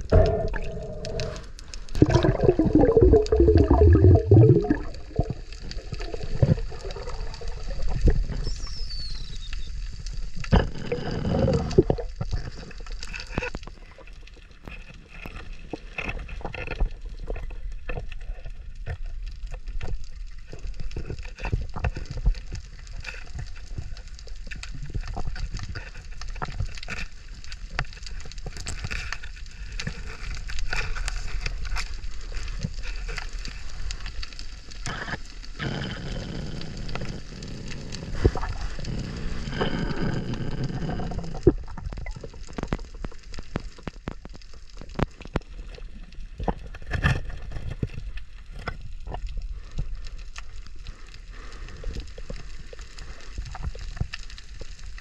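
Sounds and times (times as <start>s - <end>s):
low rumble of moving water: 0.0s - 55.0s.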